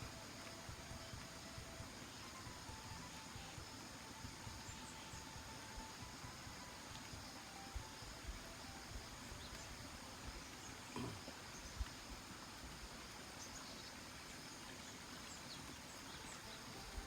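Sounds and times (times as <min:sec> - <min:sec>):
quiet outdoor hiss: 0:00.0 - 0:17.0.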